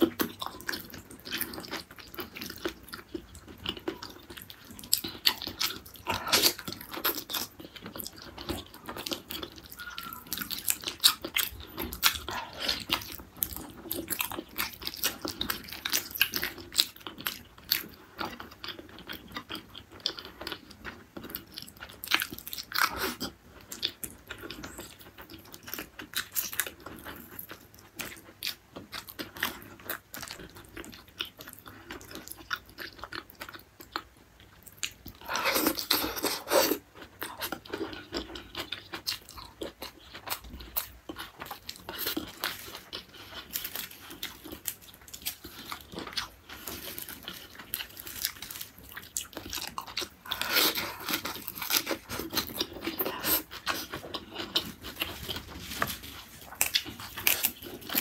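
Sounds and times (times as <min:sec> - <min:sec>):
chewing and biting: 0:00.0 - 0:58.0.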